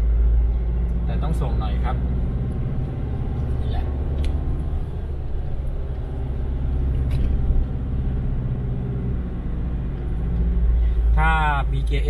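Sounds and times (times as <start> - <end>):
diesel engine pulling hard: 0.0 - 12.0.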